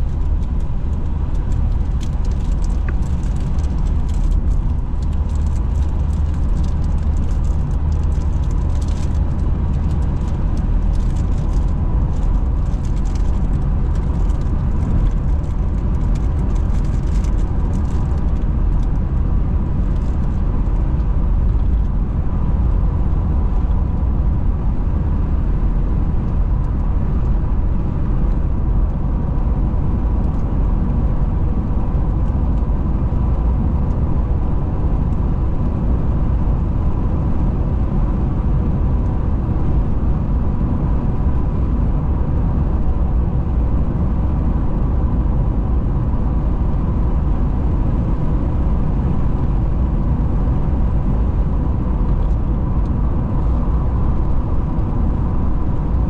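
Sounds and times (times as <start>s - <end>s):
car tyres and engine rumbling: 0.0s - 56.0s.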